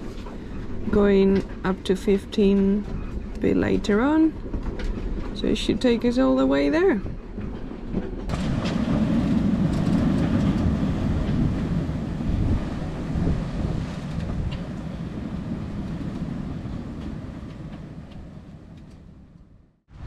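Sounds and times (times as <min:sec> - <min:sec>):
low rumble aboard sailboat: 0:00.0 - 0:20.0.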